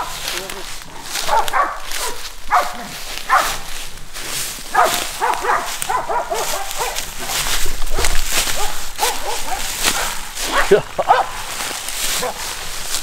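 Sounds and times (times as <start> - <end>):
dogs barking: 0.0 - 3.8, 4.6 - 12.6
leaves crunching underfoot: 0.0 - 13.0.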